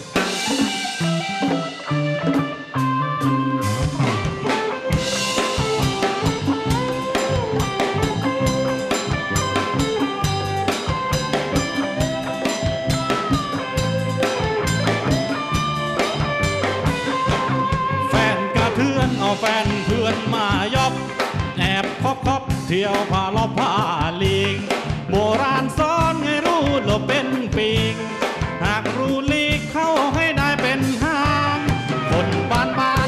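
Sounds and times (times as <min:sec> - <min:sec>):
bending lead guitar line: 0:00.0 - 0:33.0
drum kit steady beat: 0:00.0 - 0:33.0
electric guitars: 0:00.0 - 0:33.0.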